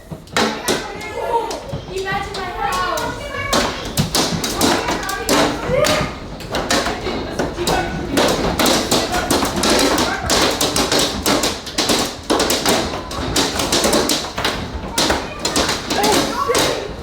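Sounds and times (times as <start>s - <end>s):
hail pelting a hard surface: 0.4s - 17.0s.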